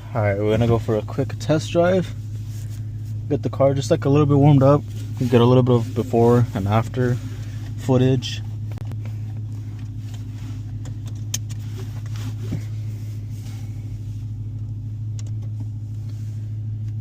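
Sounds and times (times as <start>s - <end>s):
car engine humming steadily: 0.0s - 17.0s.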